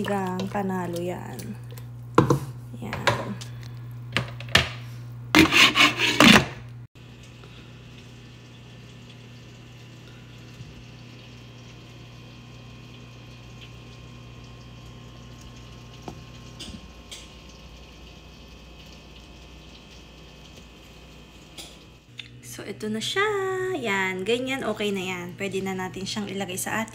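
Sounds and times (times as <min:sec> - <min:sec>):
oven fan hum with hiss: 0:00.0 - 0:26.9.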